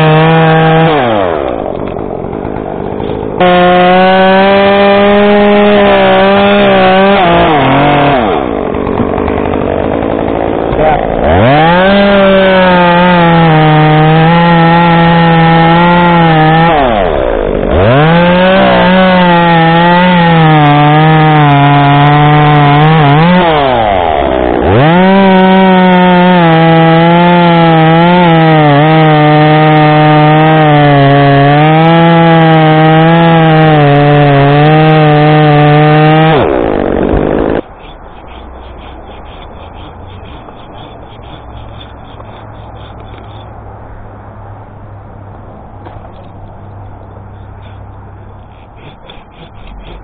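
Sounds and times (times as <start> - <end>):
chainsaw cutting wood: 0.0 - 43.6, 47.1 - 50.0.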